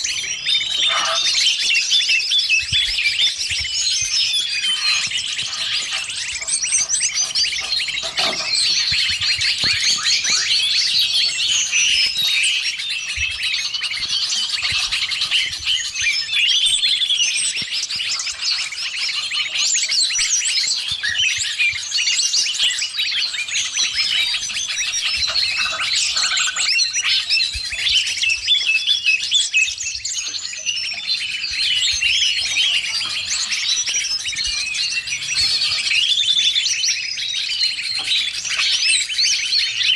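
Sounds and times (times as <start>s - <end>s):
leafbird song: 0.0s - 39.9s
songbirds chirping and trilling: 0.0s - 39.9s.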